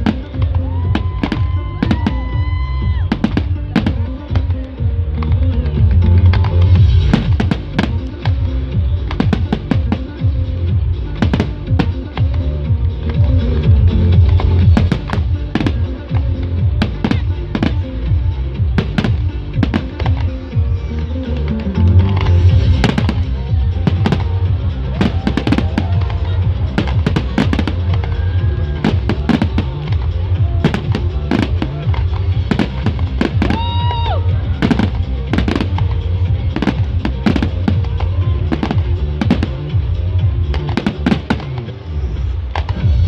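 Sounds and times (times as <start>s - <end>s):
fireworks bangs and crackles: 0.0s - 43.0s
music: 0.0s - 43.0s.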